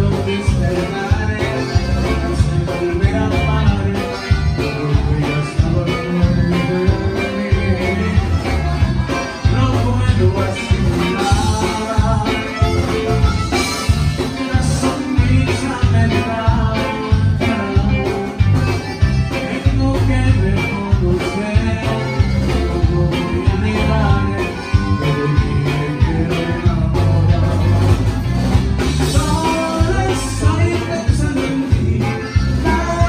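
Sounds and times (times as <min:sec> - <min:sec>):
live band playing dance music: 0:00.0 - 0:33.0
steady bass beat: 0:00.0 - 0:33.0.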